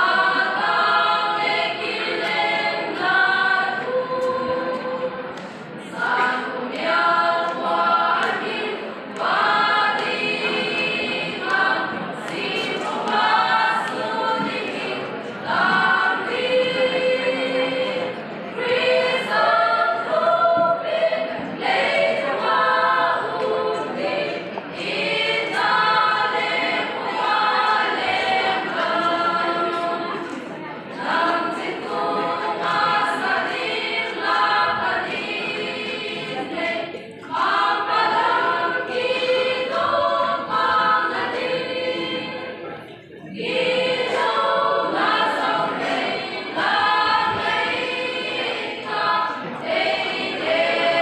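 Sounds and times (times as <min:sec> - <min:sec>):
women's choir singing unaccompanied: 0:00.0 - 0:51.0.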